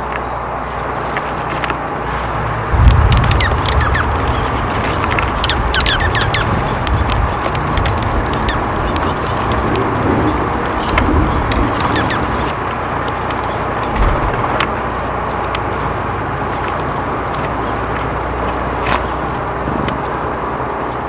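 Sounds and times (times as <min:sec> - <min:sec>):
birds chirping: 0:00.0 - 0:21.0
low rumble: 0:02.0 - 0:20.8.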